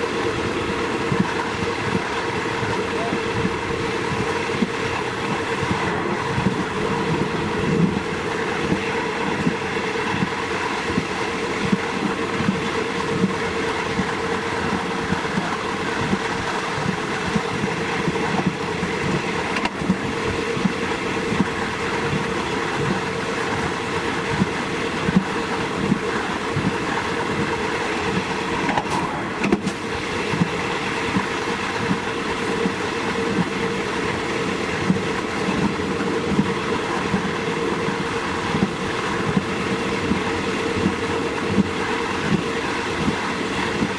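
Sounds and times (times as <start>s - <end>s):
diesel train rumble and hum: 0.0s - 43.9s
wheels clattering on track: 4.2s - 43.9s.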